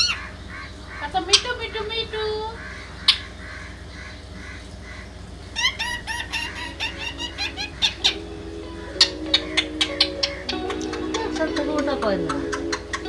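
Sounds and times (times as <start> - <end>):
parrot chirping: 0.0 - 13.0
parrot squawks: 0.0 - 13.0.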